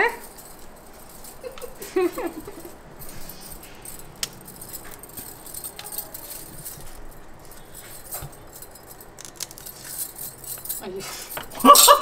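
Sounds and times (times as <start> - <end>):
glass bangles jingling: 0.0 - 12.0
light kitchen clinks: 0.0 - 12.0.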